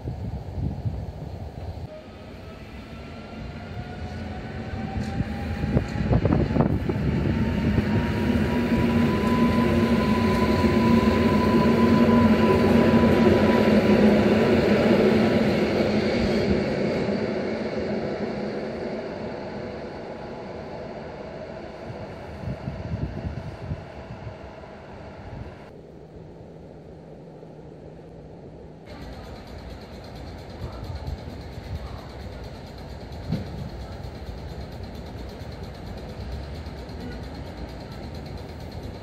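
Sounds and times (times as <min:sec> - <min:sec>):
electric train drive whine: 0:00.1 - 0:39.0
train cars rolling: 0:02.8 - 0:25.7, 0:28.3 - 0:39.0.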